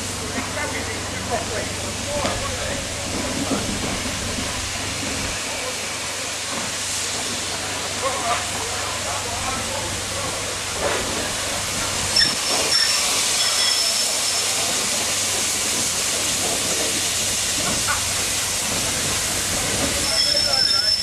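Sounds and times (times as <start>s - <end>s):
steam hissing: 0.0s - 21.0s
steam locomotive moving slowly: 0.0s - 21.0s.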